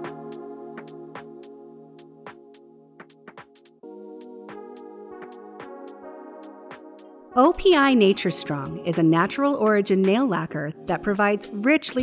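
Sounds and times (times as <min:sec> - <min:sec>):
synthesizer chords: 0:00.0 - 0:12.0.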